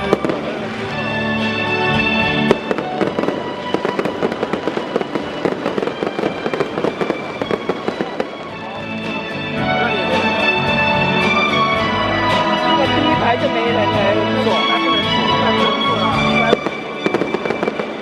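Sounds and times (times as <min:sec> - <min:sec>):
fireworks popping and banging: 0:00.0 - 0:18.0
stadium music playing: 0:00.0 - 0:18.0.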